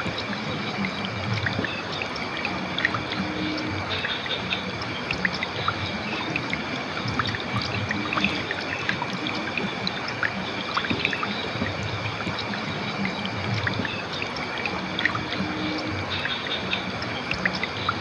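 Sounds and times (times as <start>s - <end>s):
river water flowing: 0.0s - 18.0s
small splashes and drips: 0.0s - 18.0s.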